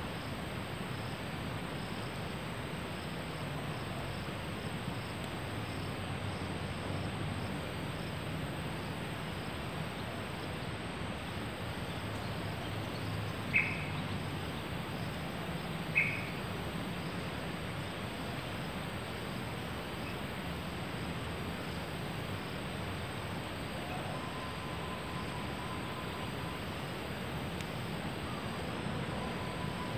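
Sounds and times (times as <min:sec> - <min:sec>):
insects hissing: 0:00.0 - 0:29.9.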